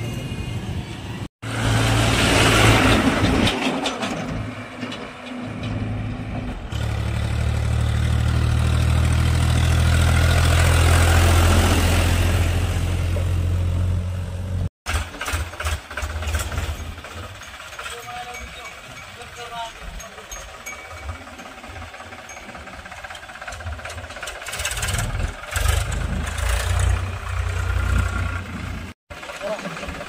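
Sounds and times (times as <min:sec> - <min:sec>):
diesel tractor engine running: 0:01.4 - 0:30.0.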